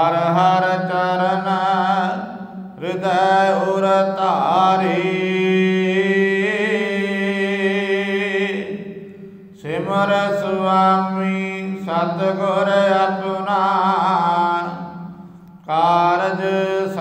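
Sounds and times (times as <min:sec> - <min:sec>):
man chanting: 0:00.0 - 0:17.0.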